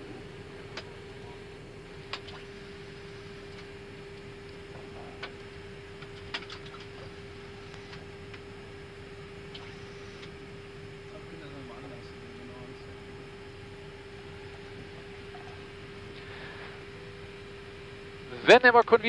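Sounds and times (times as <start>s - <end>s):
steady cockpit hum: 0.0s - 19.0s.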